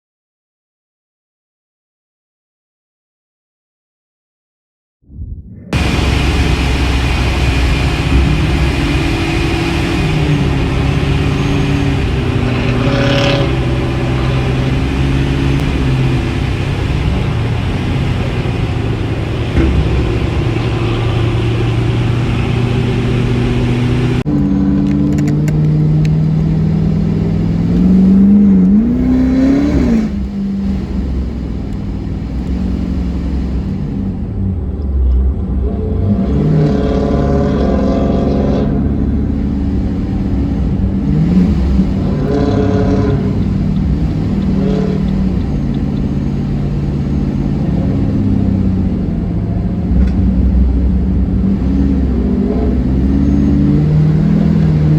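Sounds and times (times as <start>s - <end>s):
car engine running loud: 5.4s - 54.9s.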